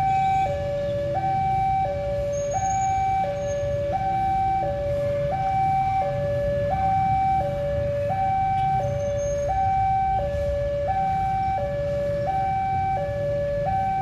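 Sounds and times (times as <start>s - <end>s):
two-tone warning siren: 0.0s - 14.0s.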